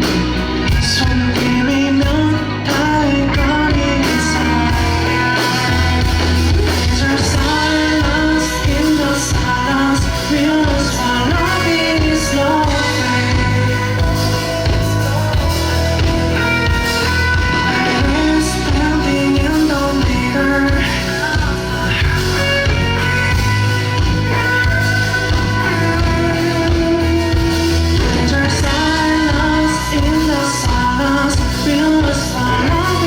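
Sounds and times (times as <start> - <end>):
live rock band playing: 0.0 - 33.0
person singing: 0.0 - 33.0.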